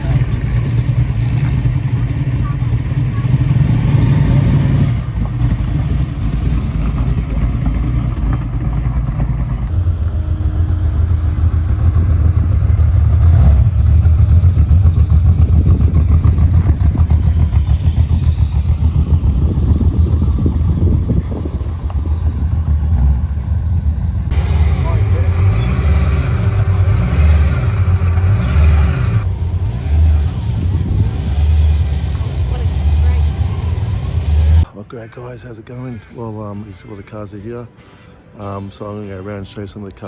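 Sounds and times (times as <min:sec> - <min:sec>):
car engine running: 0:00.0 - 0:34.7.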